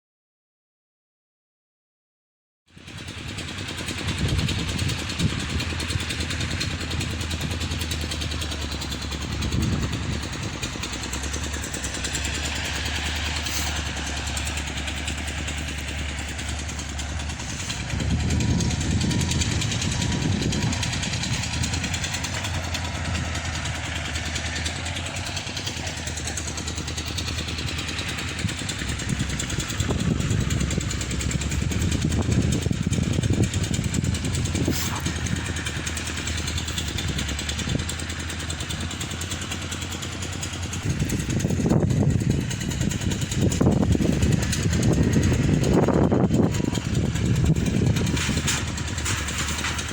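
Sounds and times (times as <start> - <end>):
pump engine rumbling: 2.7 - 49.9.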